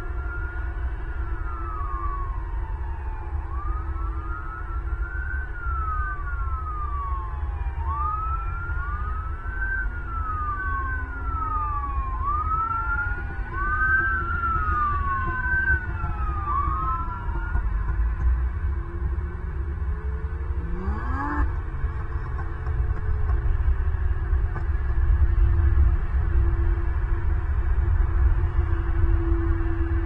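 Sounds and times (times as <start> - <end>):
steady low rumble: 0.0 - 20.8, 21.4 - 30.0
emergency sirens wailing: 0.0 - 30.0.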